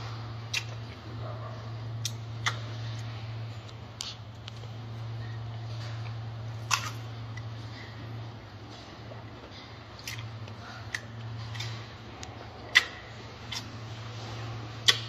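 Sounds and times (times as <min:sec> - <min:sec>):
gorilla chewing crunchily: 0:00.0 - 0:15.0
steady low hum: 0:00.0 - 0:15.0.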